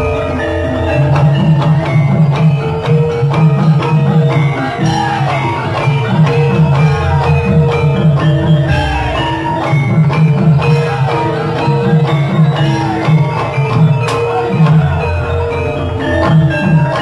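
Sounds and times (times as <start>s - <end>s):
metal mallet instruments melody: 0.0s - 17.0s
steady drum rhythm: 0.9s - 17.0s.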